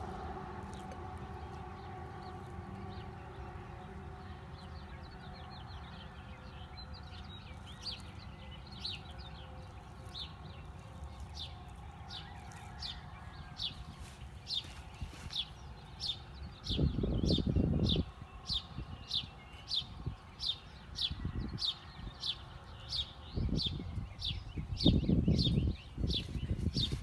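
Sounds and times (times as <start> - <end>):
bird chirping: 0.0 - 27.0
low outdoor rumble: 0.0 - 27.0.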